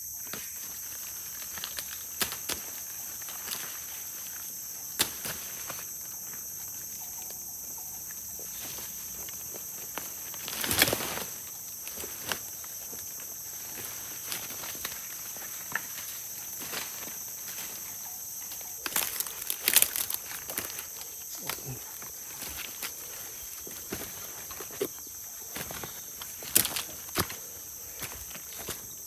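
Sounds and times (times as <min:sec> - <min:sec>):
insects chorus: 0:00.0 - 0:29.0
rustling and snapping undergrowth: 0:00.2 - 0:07.4, 0:08.5 - 0:29.0.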